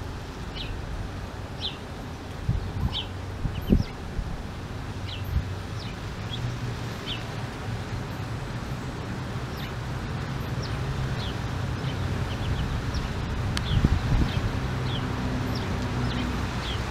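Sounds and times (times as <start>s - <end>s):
low steady rumble: 0.0s - 16.9s.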